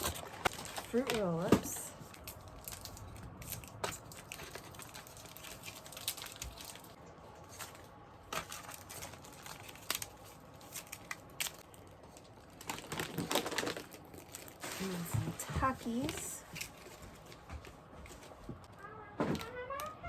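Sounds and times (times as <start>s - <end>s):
plastic wrappers crinkling: 0.0s - 18.6s.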